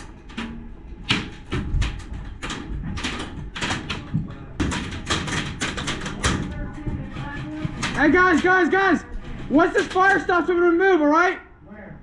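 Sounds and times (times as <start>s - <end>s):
pellets striking walls and doors: 0.0s - 11.0s.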